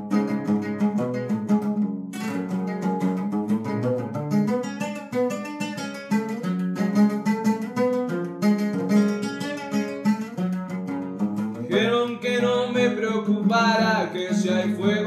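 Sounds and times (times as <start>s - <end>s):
lute picked notes and chords: 0.0s - 15.0s.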